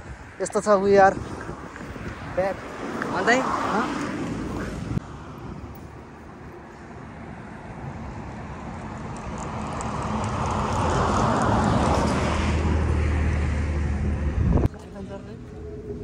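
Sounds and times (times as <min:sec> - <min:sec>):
vehicle approaching: 0:00.0 - 0:16.0.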